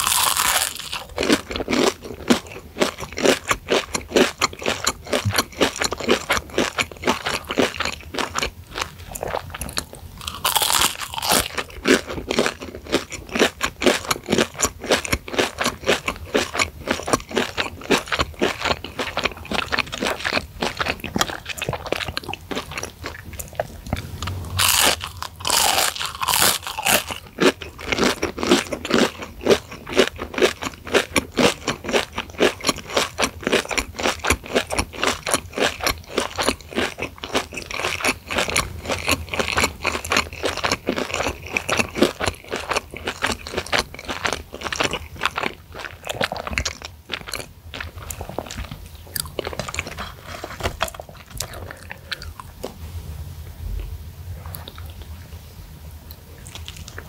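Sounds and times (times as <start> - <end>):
crunchy chicken being chewed: 0.0 - 52.8, 56.2 - 57.0.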